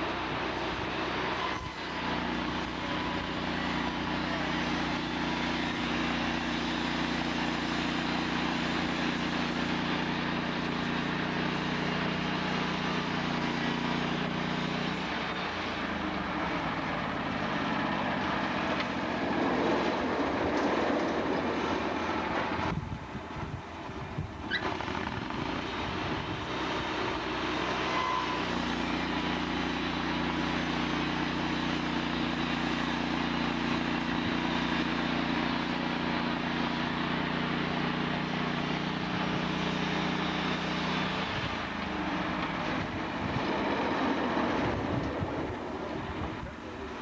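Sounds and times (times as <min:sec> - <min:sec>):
broad noise: 0:00.0 - 0:47.0
sawmill engine running: 0:00.0 - 0:47.0.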